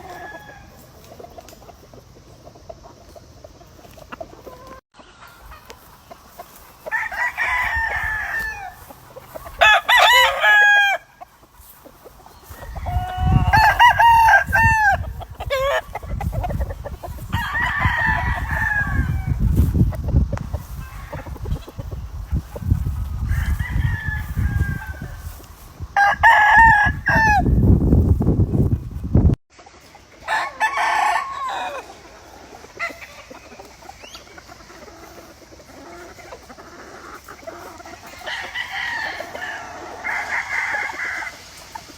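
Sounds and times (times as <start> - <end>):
roosters crowing: 0.0 - 29.1, 29.8 - 41.9.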